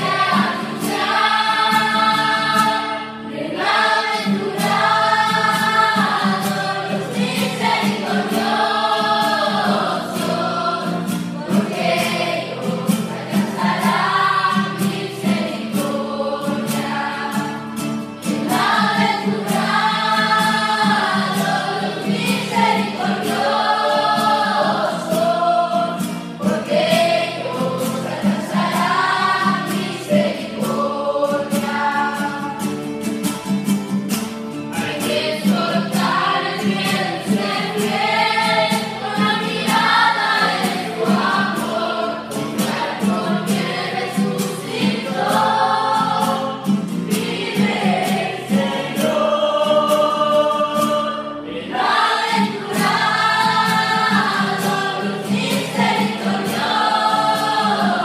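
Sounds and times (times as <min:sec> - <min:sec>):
youth choir singing a hymn: 0:00.0 - 0:33.2, 0:34.7 - 0:58.0
strummed classical guitar: 0:00.0 - 0:58.0.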